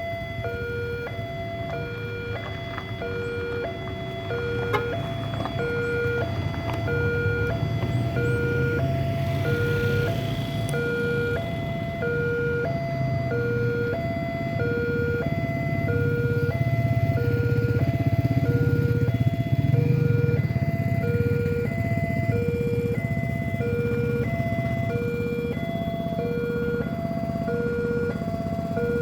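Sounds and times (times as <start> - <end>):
two-tone level crossing alarm: 0.0 - 29.0.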